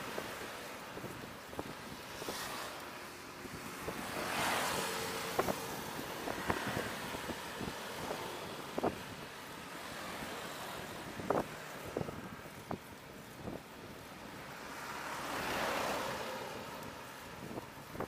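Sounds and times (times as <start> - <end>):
traffic noise: 0.0 - 18.0
wind rushing over microphone: 0.0 - 18.0.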